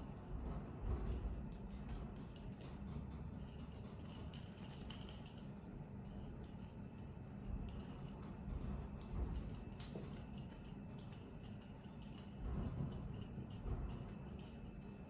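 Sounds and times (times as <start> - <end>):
small bells jingling: 0.0 - 15.0.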